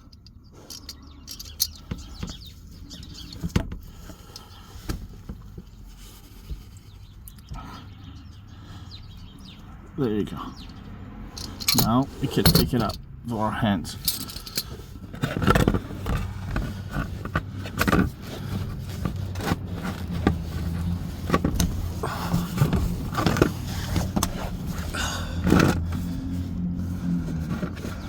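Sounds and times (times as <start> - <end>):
oil filter scraping and clicking: 0.0 - 7.6, 10.3 - 28.0.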